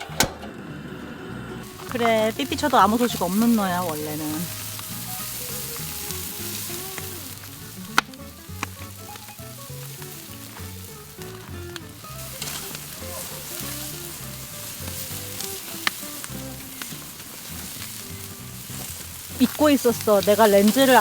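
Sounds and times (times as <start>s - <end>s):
soft background music: 0.0s - 21.0s
meat sizzling on a grill: 1.5s - 21.0s.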